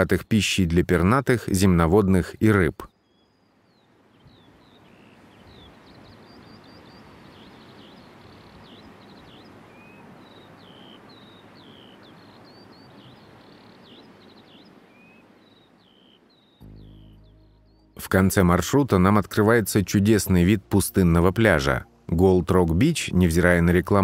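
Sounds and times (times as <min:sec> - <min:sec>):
background hiss: 0:00.0 - 0:24.0
small birds chirping: 0:00.0 - 0:24.0.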